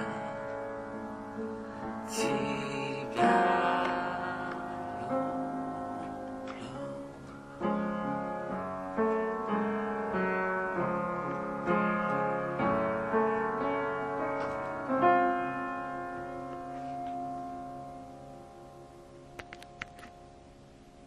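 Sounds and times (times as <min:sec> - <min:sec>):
instrumental chords ringing out: 0:00.0 - 0:21.0.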